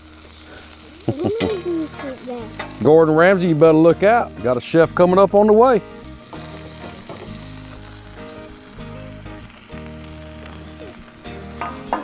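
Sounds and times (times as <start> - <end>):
beef patty sizzling on griddle: 0.0 - 12.0.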